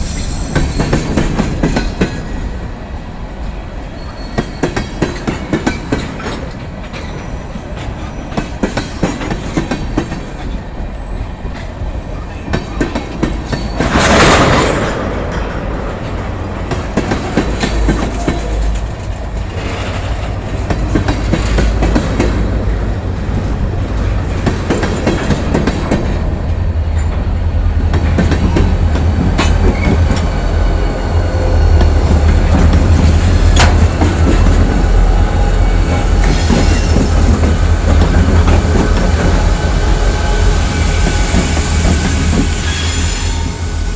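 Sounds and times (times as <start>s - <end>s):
train wheels clicking and clanking: 0.0s - 43.9s
diesel locomotive rumble: 5.3s - 43.9s.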